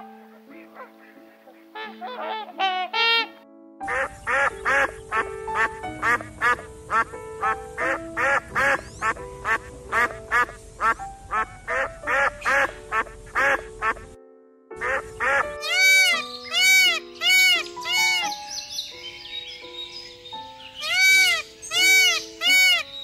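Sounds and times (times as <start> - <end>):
background music: 0.0 - 23.0
duck quacking calls: 0.5 - 14.1, 14.8 - 18.4, 20.8 - 22.9.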